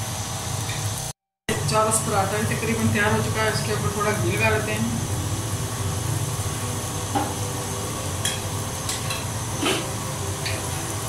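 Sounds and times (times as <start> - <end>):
ghee sizzling on a griddle: 0.0 - 11.0.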